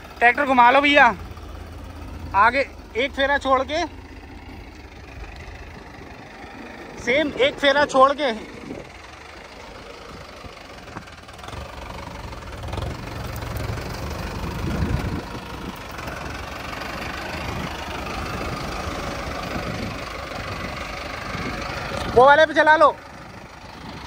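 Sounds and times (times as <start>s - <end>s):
tractor diesel engine passing: 0.0s - 24.0s.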